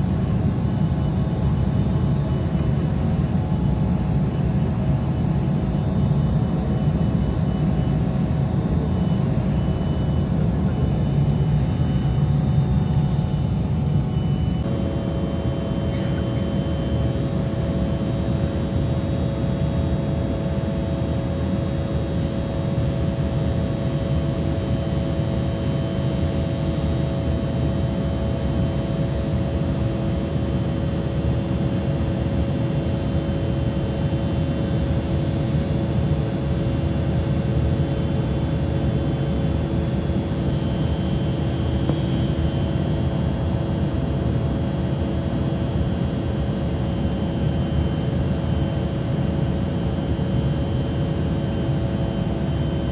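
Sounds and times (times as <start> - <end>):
airplane cabin engine and air rush: 0.0 - 52.9
steady humming tones: 0.0 - 52.9.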